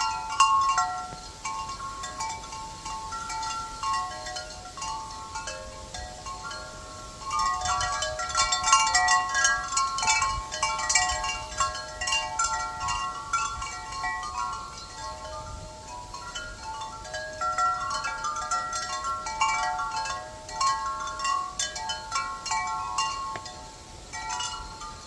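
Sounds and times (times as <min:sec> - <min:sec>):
chimes ringing: 0:00.0 - 0:25.0.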